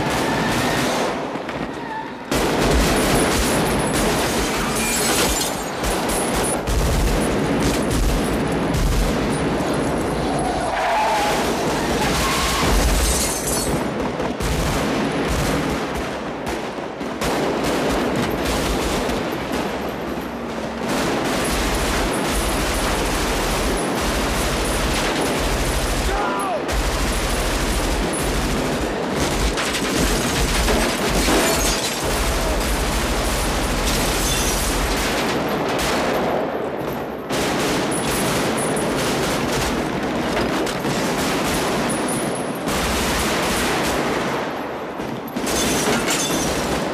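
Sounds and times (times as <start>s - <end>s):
automatic rifle fire: 0.0s - 9.9s, 11.1s - 19.8s, 20.4s - 36.6s, 37.3s - 46.9s.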